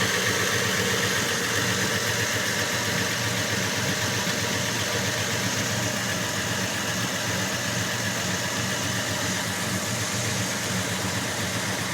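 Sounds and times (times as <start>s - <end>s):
pickup truck engine idling: 0.0s - 11.9s.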